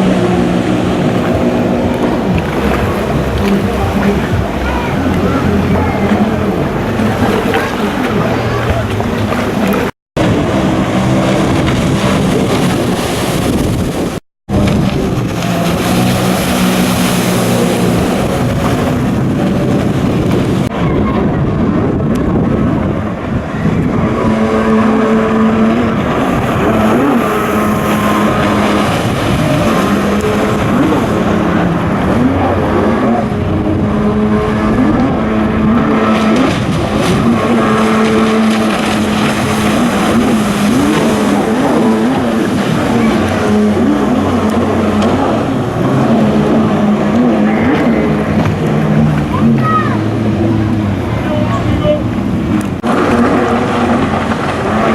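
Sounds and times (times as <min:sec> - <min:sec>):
jet ski engines revving: 0:00.0 - 0:54.9.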